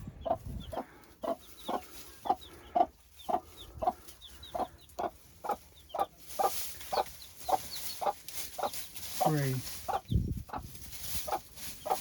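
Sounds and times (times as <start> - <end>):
chicks cheeping: 0.0 - 12.0
hen clucking: 0.0 - 12.0.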